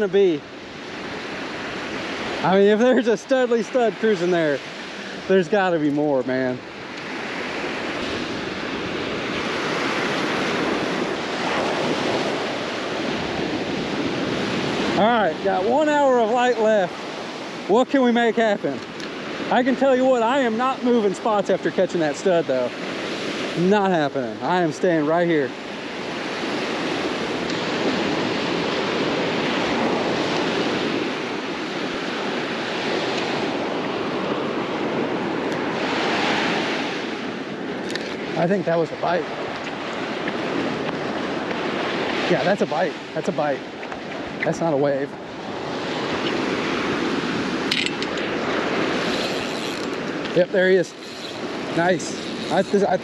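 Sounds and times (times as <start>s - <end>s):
wind on microphone: 0.0s - 19.5s, 25.4s - 53.0s
ocean surf breaking: 0.0s - 53.0s
waves washing up beach: 0.0s - 53.0s.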